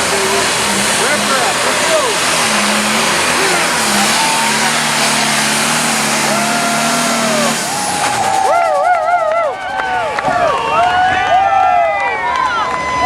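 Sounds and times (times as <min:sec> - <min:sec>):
diesel tractor engine at full throttle: 0:00.0 - 0:13.0
voices shouting: 0:01.8 - 0:12.5.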